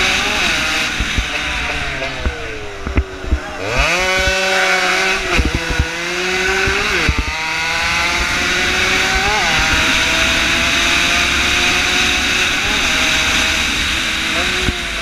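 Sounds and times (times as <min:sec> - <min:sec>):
small motorcycle engine revving: 0:00.0 - 0:15.0.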